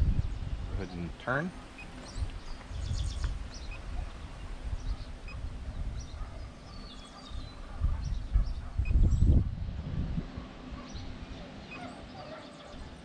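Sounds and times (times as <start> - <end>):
small birds chirping: 0.0 - 13.0
wind rumble on microphone: 0.0 - 13.0.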